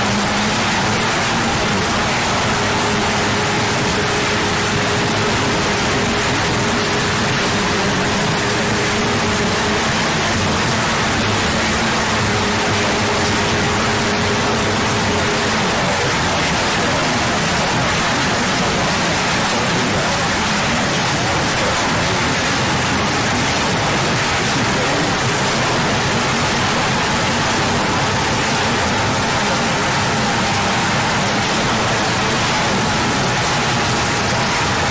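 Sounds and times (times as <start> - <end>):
static-like hiss: 0.0 - 34.9.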